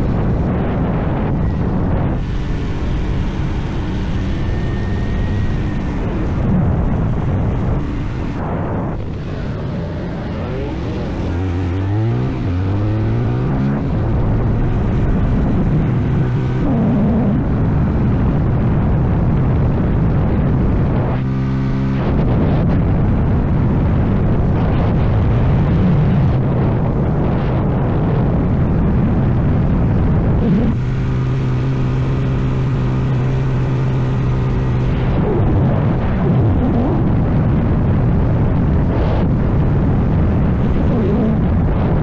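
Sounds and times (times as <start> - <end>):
motorcycle engine running: 0.0 - 42.0
road noise: 0.0 - 42.0
wind noise: 0.0 - 42.0.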